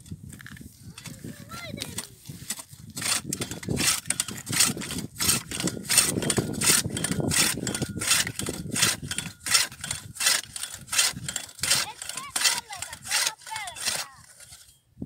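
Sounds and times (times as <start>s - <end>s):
ice chisel chopping ice: 1.8s - 14.6s.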